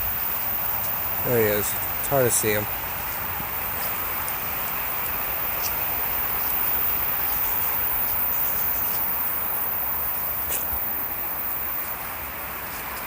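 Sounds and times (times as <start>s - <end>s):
insect chorus hiss: 0.0s - 13.0s.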